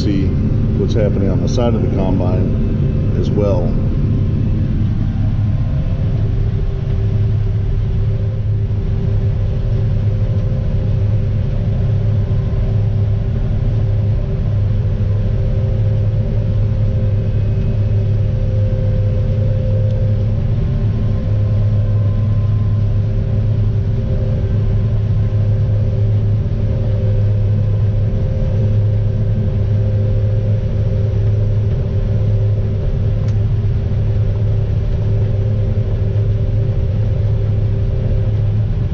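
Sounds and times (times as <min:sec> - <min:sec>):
combine harvester engine droning: 0:00.0 - 0:38.9.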